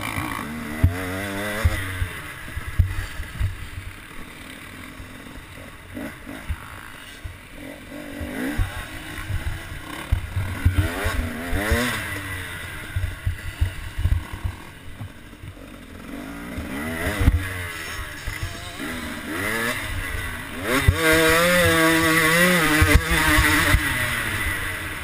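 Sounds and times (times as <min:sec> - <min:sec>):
motocross bike revving: 0:00.0 - 0:25.0.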